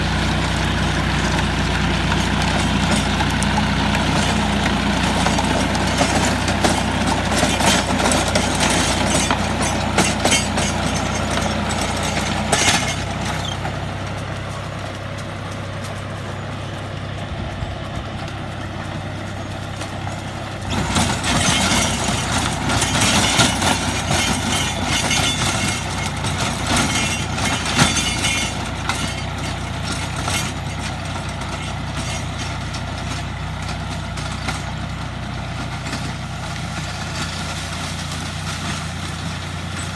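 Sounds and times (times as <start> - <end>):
rotary tiller clatter: 0.0 - 39.9
tractor engine running: 0.0 - 39.9.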